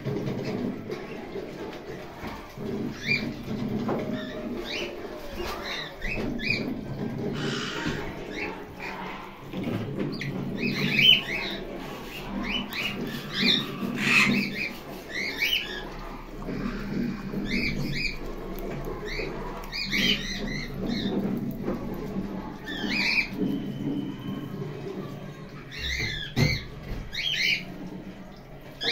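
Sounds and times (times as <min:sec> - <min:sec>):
parrots gnawing nut shells: 0:00.0 - 0:24.8.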